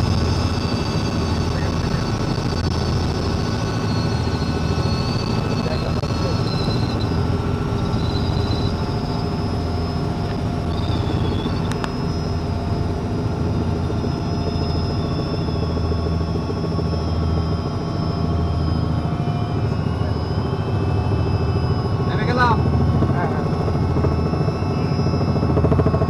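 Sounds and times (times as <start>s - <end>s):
helicopter drone with high whine: 0.0s - 26.0s.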